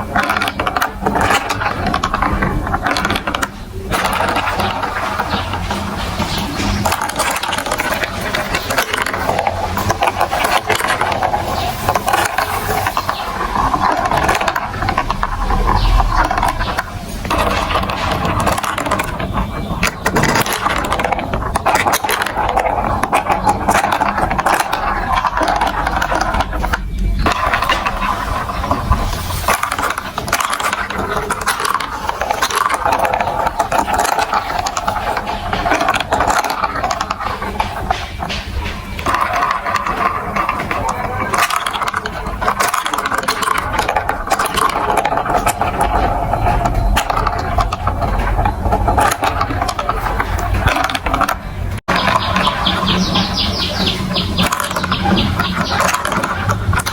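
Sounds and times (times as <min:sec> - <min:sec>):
marbles rattling through plastic tracks: 0:00.0 - 0:56.9.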